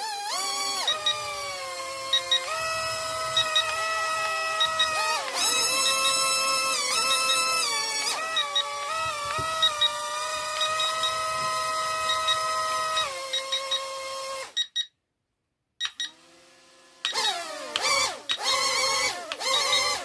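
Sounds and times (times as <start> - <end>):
toy airplane high-pitched whine: 0.0 - 14.7, 17.0 - 20.0.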